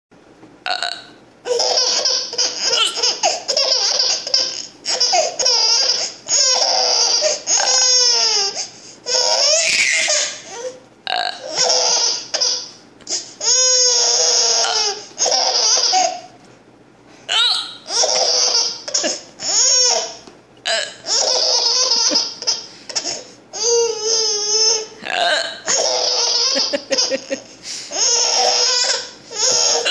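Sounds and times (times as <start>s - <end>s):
baby laughing: 1.5s - 10.7s, 11.4s - 16.3s, 17.3s - 20.2s, 21.0s - 29.9s.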